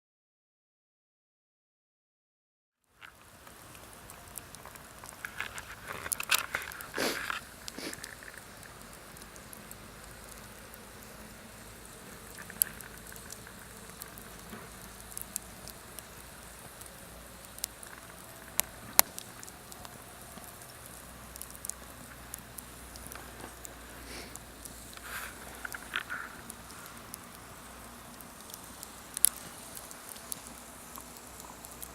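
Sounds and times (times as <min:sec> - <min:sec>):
campfire crackling: 0:02.8 - 0:31.9
faint steady hiss: 0:02.8 - 0:31.9
fire pops: 0:03.0 - 0:31.9.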